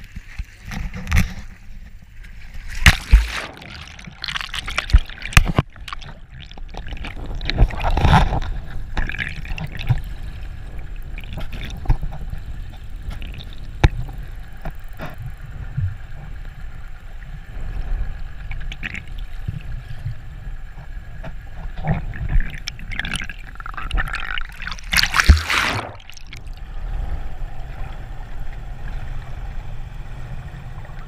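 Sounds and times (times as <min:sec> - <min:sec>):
water splashing and gurgling: 0:00.0 - 0:16.6, 0:17.2 - 0:31.0
muffled underwater wash: 0:00.0 - 0:31.0.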